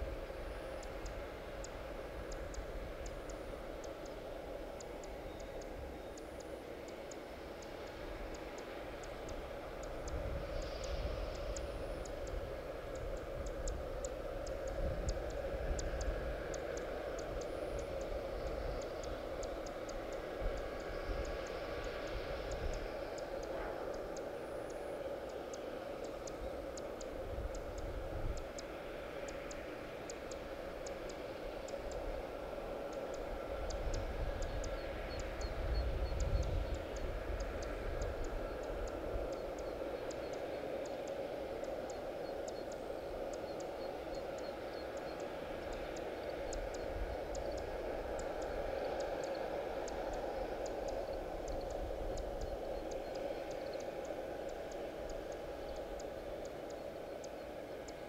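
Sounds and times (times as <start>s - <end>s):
airliner hum: 0.0s - 58.0s
faint high ticks: 0.0s - 58.0s.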